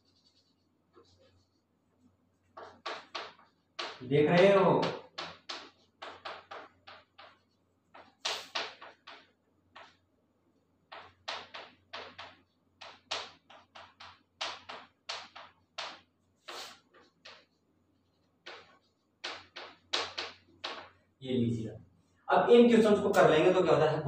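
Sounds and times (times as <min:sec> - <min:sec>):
chalk tapping and scraping on blackboard: 0:00.0 - 0:10.1, 0:10.8 - 0:21.1.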